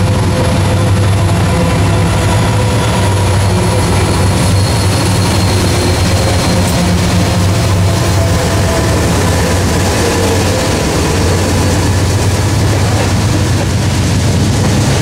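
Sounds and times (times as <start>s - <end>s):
diesel locomotive engines droning: 0.0s - 15.0s
train rumble: 0.0s - 15.0s.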